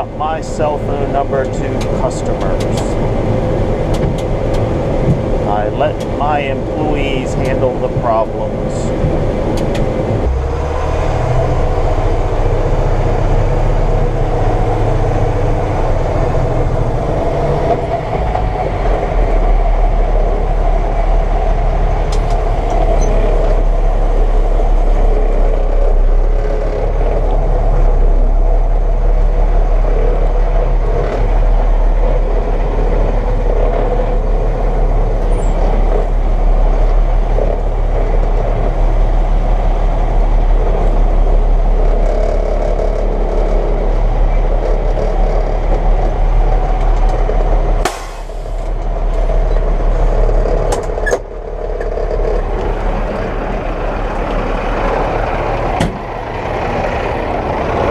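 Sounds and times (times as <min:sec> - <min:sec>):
combine harvester drone: 0:00.0 - 0:57.9.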